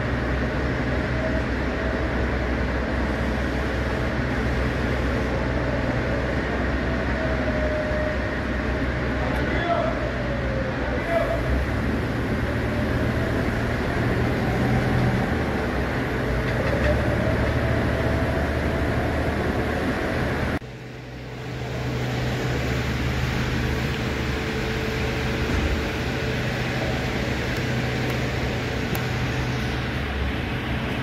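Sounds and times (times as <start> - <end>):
mechanical hum with low drone: 0.0 - 31.0.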